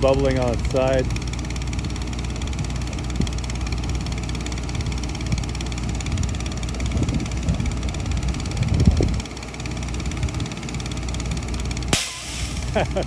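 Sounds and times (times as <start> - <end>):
air compressor engine droning: 0.0 - 13.0.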